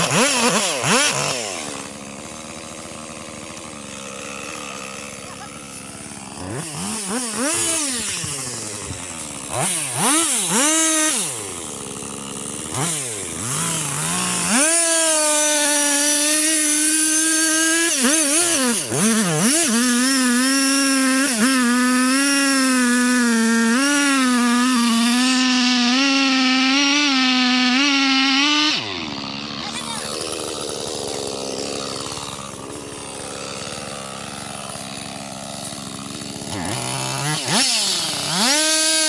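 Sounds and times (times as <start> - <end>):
chainsaw cutting into tree trunk: 0.0 - 39.0.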